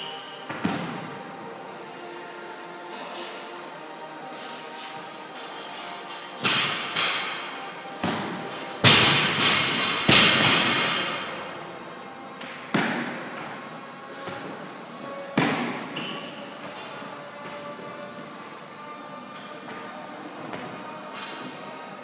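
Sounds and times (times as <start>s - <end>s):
faint background music: 0.0s - 22.0s.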